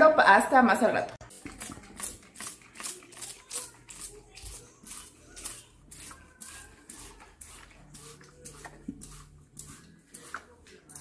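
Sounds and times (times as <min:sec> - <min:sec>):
spray bottle spritzing water: 0:01.3 - 0:11.0.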